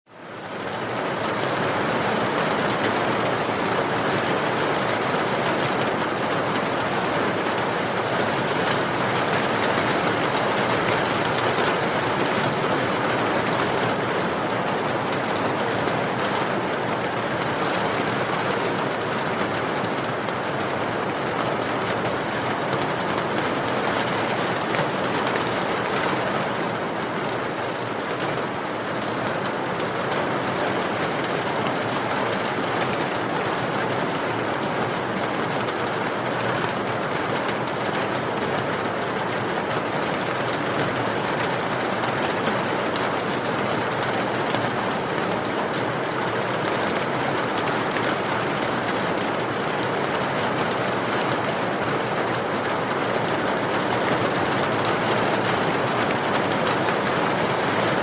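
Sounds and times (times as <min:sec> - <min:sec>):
steady rain pouring: 0:00.1 - 0:58.0.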